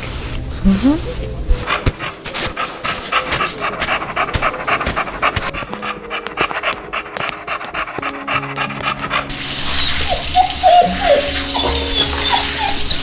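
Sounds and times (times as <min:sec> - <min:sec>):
dog panting: 0:00.7 - 0:13.0.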